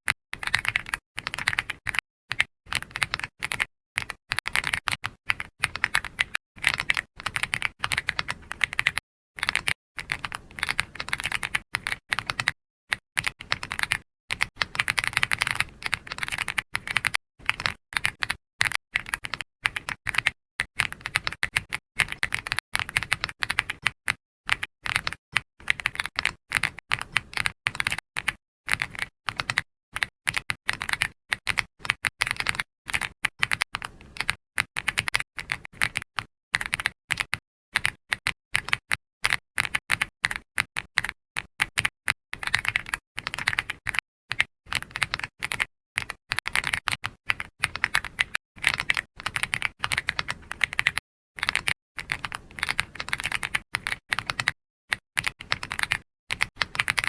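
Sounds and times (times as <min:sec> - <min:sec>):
keyboard typing clicks: 0:00.4 - 0:57.0.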